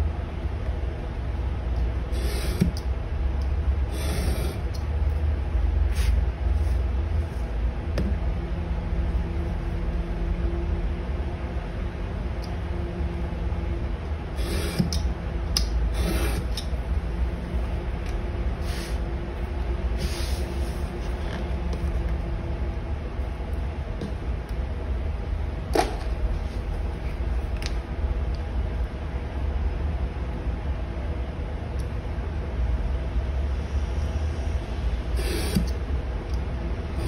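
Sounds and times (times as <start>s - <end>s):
faint hum: 0.0s - 37.0s
steady low rumble: 0.0s - 37.0s.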